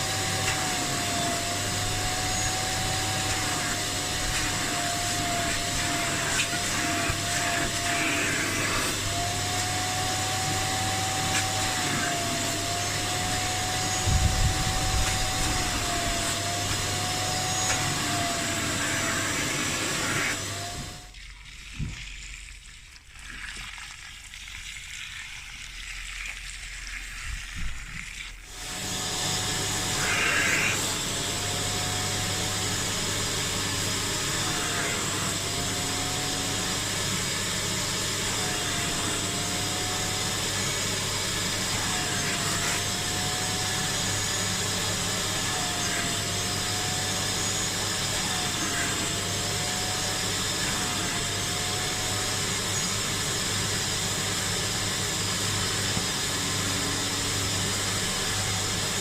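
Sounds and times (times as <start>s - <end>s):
carpet cleaner suction whine: 0.0s - 21.2s, 27.0s - 59.0s.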